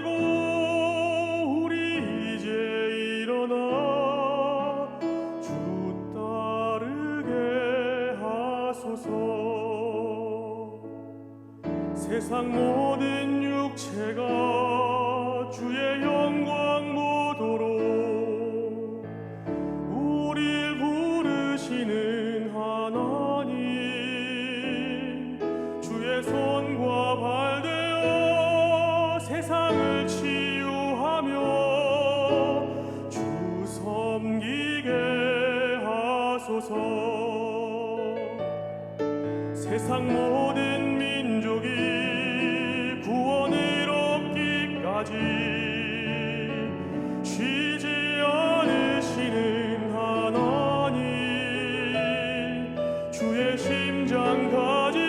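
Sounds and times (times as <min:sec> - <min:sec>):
piano accompaniment: 0:00.0 - 0:55.0
worship song with vibrato melody: 0:00.0 - 0:55.0.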